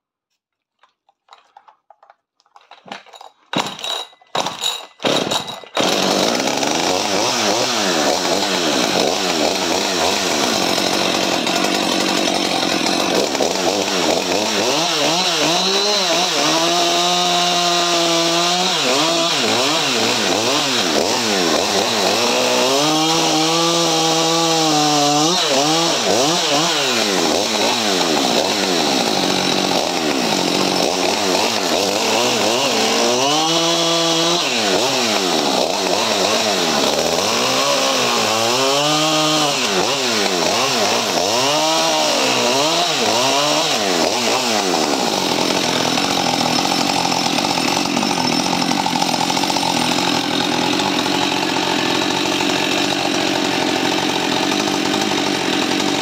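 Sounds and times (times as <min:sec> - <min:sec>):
chainsaw cutting wood: 0:00.8 - 0:56.0.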